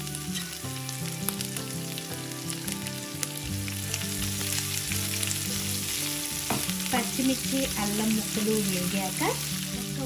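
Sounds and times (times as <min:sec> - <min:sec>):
spices sizzling in hot oil: 0:00.0 - 0:10.0
mustard seeds crackling: 0:00.1 - 0:10.0.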